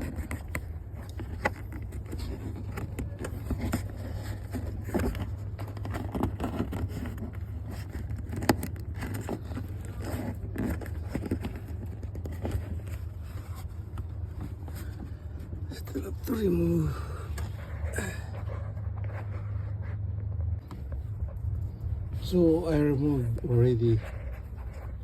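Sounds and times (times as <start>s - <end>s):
steady low rumble: 0.2s - 25.0s.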